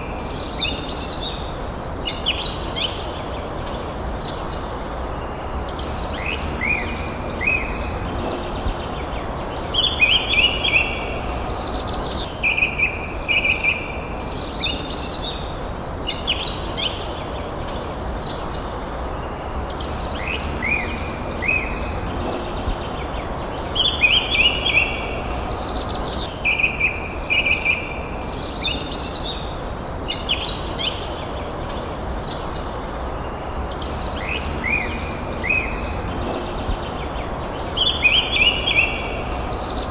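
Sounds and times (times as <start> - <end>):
forest birds chirping and trilling: 0.0 - 39.9
steady low background noise: 0.0 - 39.9.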